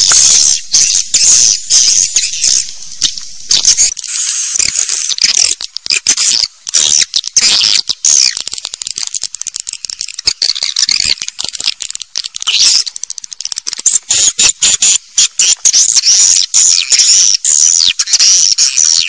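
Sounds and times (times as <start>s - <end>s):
swiftlets chirping: 0.0s - 18.8s.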